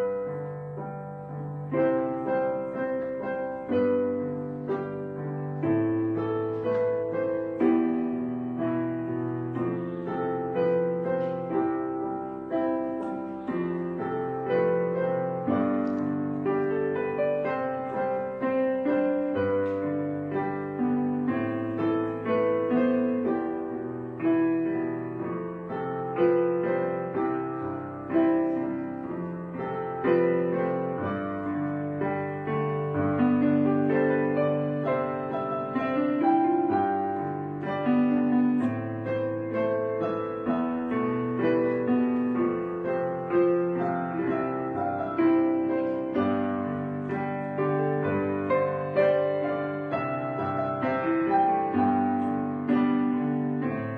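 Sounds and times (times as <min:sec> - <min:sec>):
piano music: 0:00.0 - 0:53.9.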